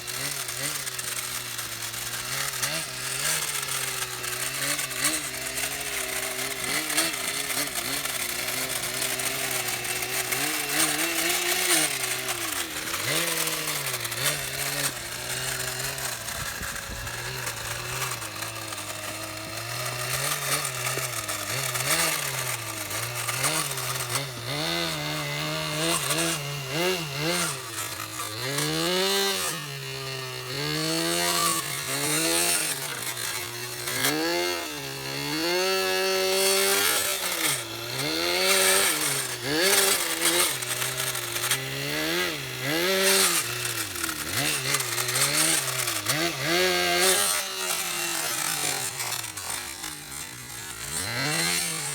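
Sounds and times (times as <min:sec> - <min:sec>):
model motor buzzing: 0:00.0 - 0:51.9.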